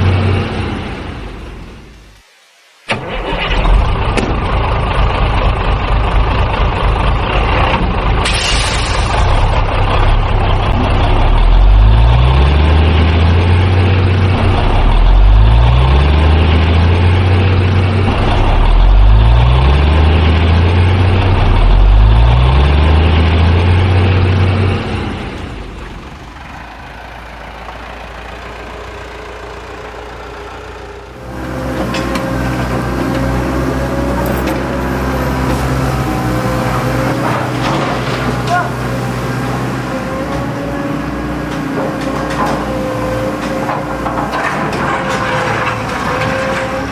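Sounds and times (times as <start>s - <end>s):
truck engine revving and idling: 0.0s - 2.0s, 2.9s - 46.9s.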